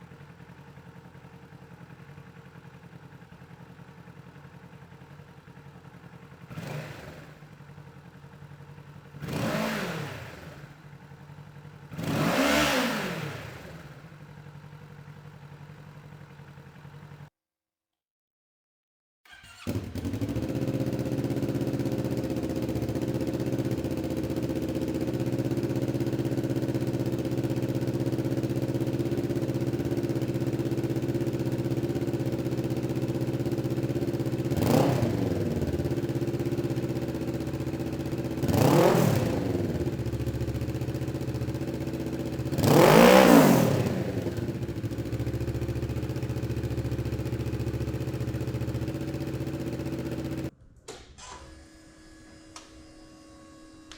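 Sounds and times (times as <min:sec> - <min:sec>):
motorcycle engine idling and revving: 0:00.0 - 0:17.4, 0:19.3 - 0:50.6.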